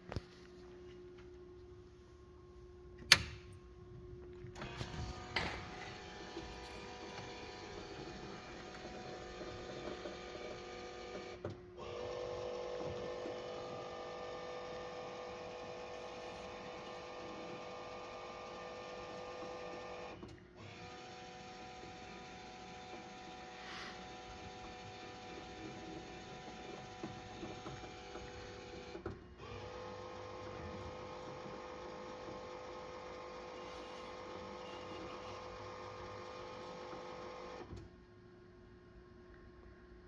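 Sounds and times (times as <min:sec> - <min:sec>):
fan and motors humming: 0:00.0 - 0:39.9.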